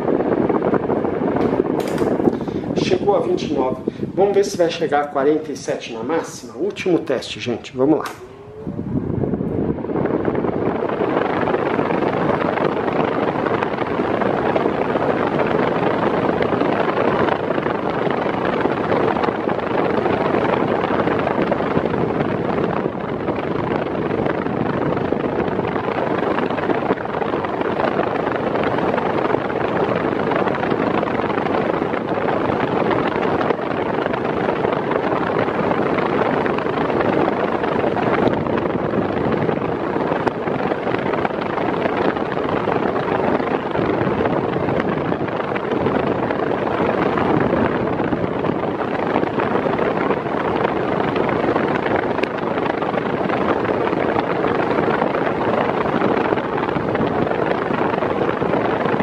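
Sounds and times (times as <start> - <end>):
table fan blowing air: 0.0 - 59.0.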